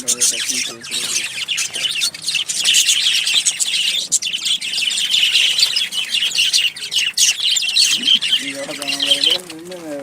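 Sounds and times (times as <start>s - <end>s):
flock of birds chirping: 0.0s - 10.0s.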